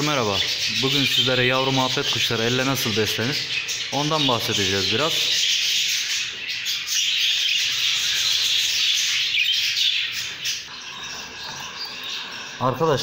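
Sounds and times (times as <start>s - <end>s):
budgerigars chattering and warbling: 0.0s - 13.0s.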